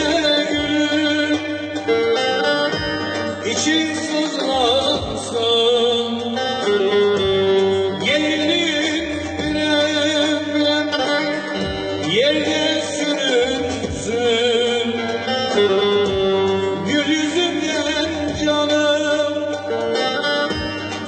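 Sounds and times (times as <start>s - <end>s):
man singing folk song: 0.0s - 1.9s, 3.4s - 19.8s
plucked long-necked lute: 0.0s - 21.0s.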